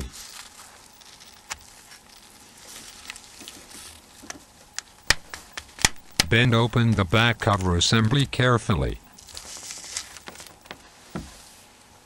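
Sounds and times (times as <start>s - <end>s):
faint handling noise: 0.0s - 8.3s, 9.1s - 11.9s.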